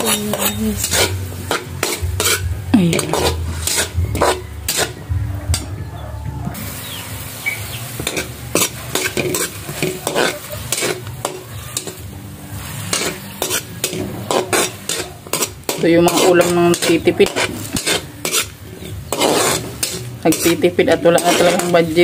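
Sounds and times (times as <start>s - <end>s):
food sizzling in oil: 0.0s - 5.0s, 6.6s - 22.0s
metal spoon scraping a wok: 0.0s - 5.8s, 6.8s - 22.0s.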